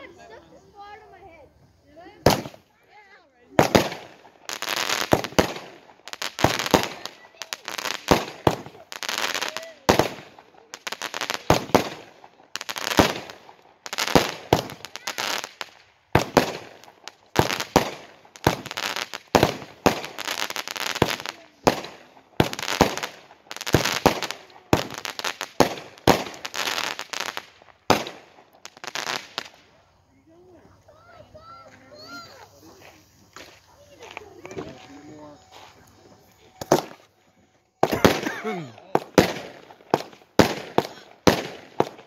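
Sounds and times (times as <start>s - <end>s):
fireworks bangs and crackles: 1.9s - 29.8s, 30.6s - 37.1s, 37.8s - 42.0s.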